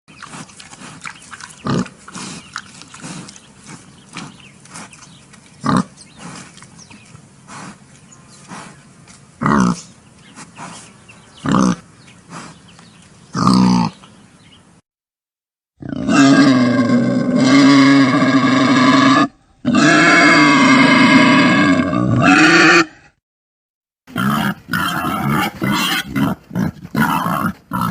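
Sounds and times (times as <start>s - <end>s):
pigs grunting: 0.1s - 7.8s, 9.4s - 12.6s, 13.3s - 14.0s, 15.8s - 23.0s, 24.1s - 27.9s.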